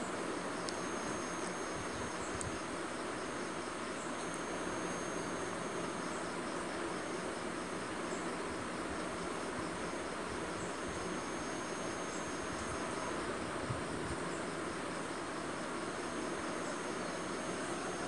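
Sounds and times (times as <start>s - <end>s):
crickets chirping: 0.0s - 18.0s
high insect trill: 0.0s - 18.0s.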